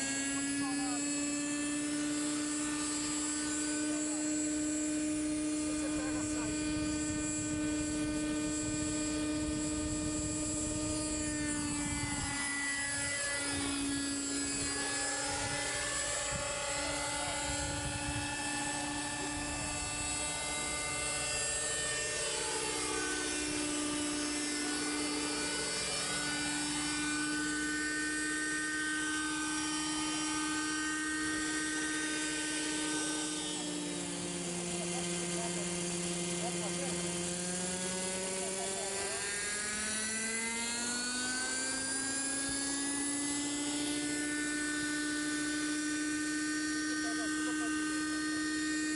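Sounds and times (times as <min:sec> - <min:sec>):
model helicopter engine and rotors whining: 0:00.0 - 0:48.9.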